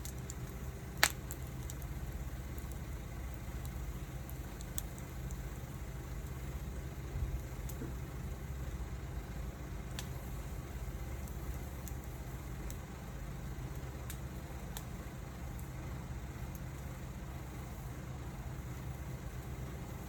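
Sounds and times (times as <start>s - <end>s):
fire crackles: 0.0s - 20.0s
wood fire rumbling: 0.0s - 20.0s.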